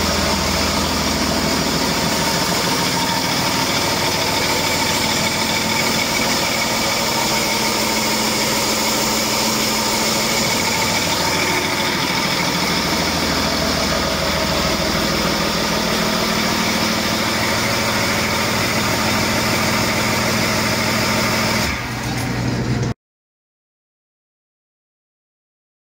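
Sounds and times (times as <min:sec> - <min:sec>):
diesel engine idling: 0:00.0 - 0:22.8.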